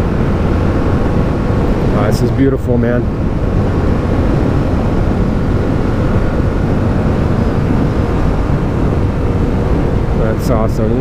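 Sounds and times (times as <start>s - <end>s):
motorcycle engine drone: 0.0s - 11.0s
wind rushing on microphone: 0.0s - 11.0s.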